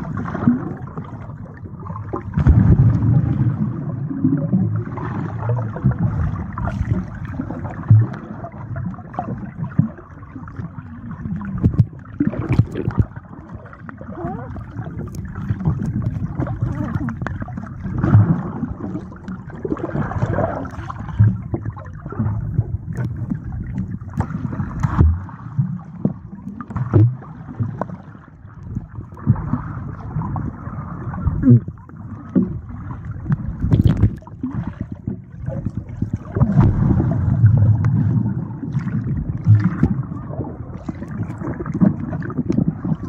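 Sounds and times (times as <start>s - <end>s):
water sloshing and gurgling: 0.0s - 43.0s.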